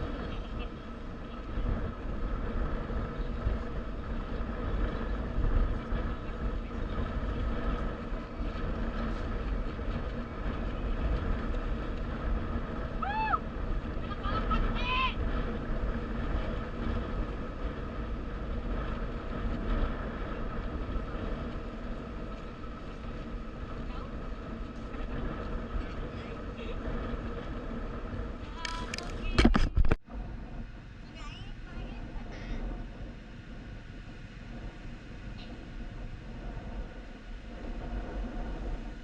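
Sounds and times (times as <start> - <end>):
motorcycle engine running: 0.0 - 38.9
wind rumble on microphone: 0.0 - 39.0.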